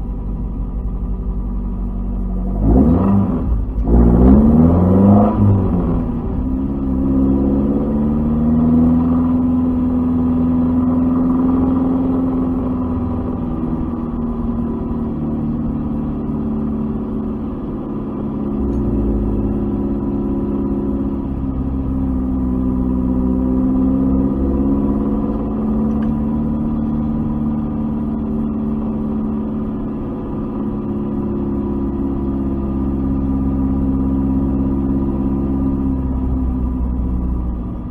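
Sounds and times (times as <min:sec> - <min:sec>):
car engine running at low revs: 0:00.0 - 0:37.9.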